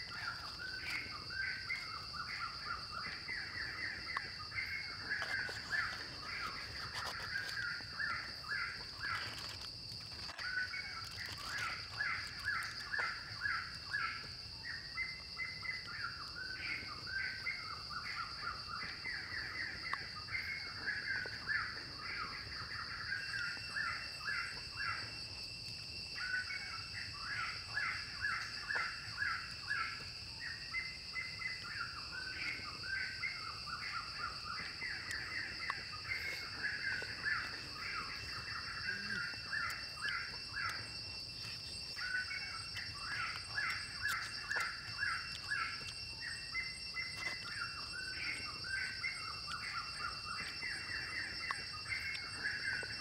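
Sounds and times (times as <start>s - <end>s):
high-pitched insect drone: 0.0s - 53.0s
birds chirping: 10.3s - 53.0s.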